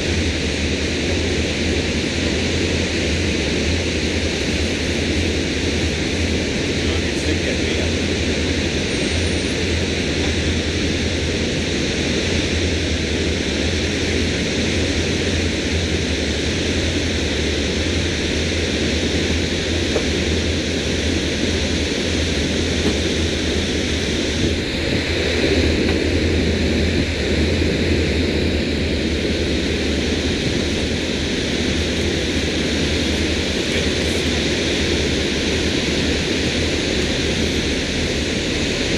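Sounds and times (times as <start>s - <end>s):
constant rushing hiss: 0.0s - 38.9s
boat engine idling: 4.1s - 38.9s.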